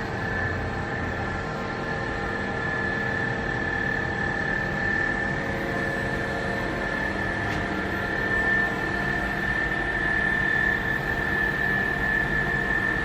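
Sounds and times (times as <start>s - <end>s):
machine humming with high whine: 0.0s - 13.0s.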